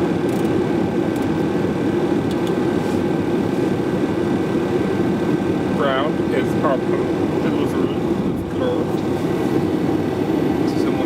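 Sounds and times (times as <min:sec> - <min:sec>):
ventilation and equipment hum: 0:00.0 - 0:11.0.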